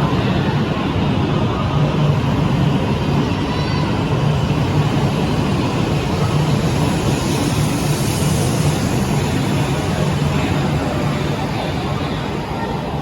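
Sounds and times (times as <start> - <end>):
bullet train rumbling: 0.0 - 13.0.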